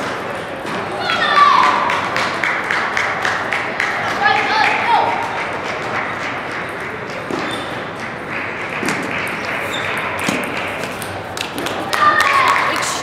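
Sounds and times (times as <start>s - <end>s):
hubbub of busy hall: 0.0s - 13.0s.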